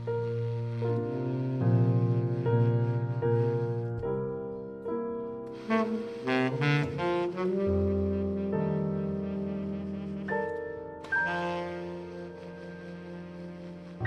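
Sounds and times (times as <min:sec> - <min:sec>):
baritone saxophone: 0:00.0 - 0:04.4, 0:05.5 - 0:14.0
piano: 0:00.0 - 0:14.0.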